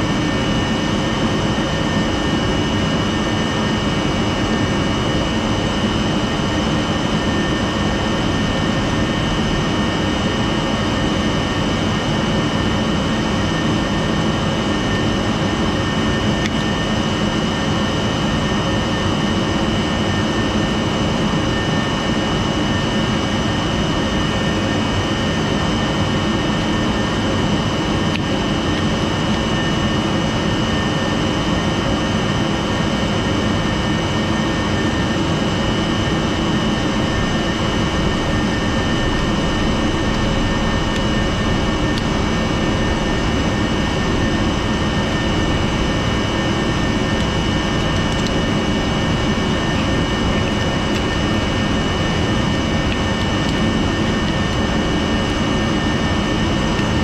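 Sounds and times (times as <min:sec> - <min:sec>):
machine drone with high whine: 0:00.0 - 0:57.0.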